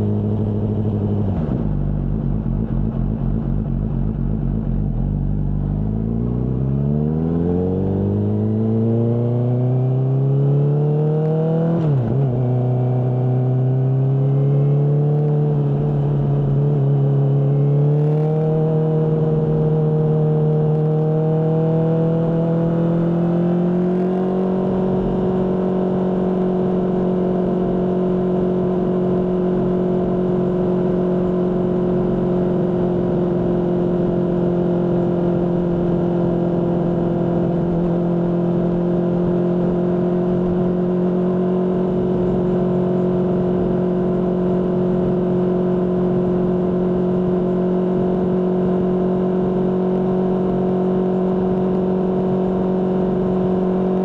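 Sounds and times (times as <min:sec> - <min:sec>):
motorcycle engine at steady revs: 0:00.0 - 0:54.0.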